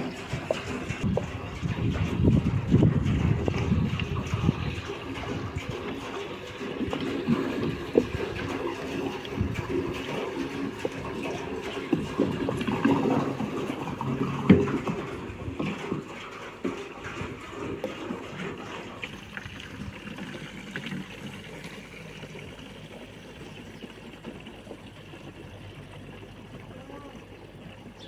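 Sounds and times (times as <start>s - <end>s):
water running into a jerrycan: 0.0s - 28.0s.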